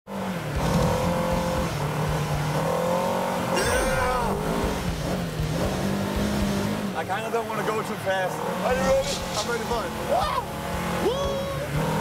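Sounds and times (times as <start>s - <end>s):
utv engines revving: 0.1s - 12.0s.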